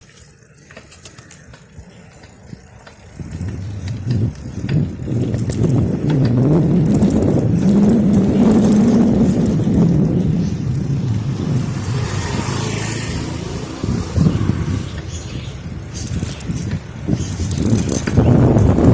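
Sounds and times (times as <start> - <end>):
vehicle engine passing close: 3.2 - 18.9.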